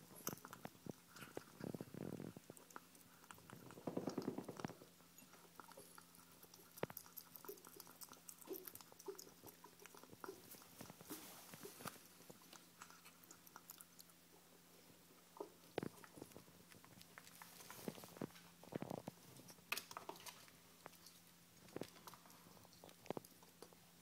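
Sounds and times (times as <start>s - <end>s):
ferrets chewing: 0.0s - 24.0s.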